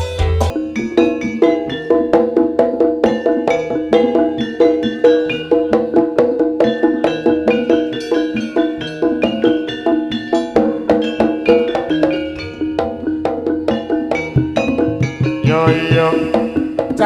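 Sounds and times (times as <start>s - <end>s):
gamelan metal percussion: 0.0s - 17.0s.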